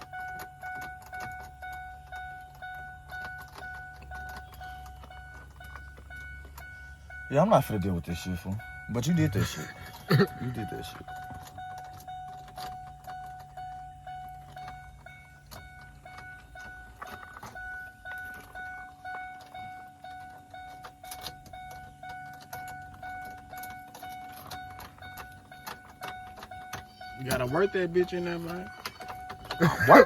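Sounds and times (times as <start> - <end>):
keys jingling: 0.0 - 7.8, 8.6 - 30.0
truck low hum: 0.0 - 30.0.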